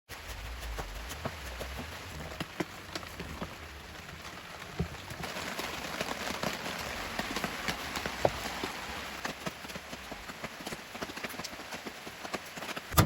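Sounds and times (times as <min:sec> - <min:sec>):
wood fire crackling and popping: 0:00.1 - 0:13.0.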